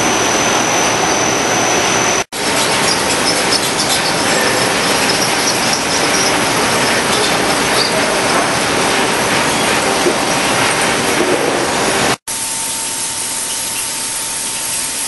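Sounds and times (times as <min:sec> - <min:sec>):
conveyor belt machinery: 0:00.0 - 0:15.0.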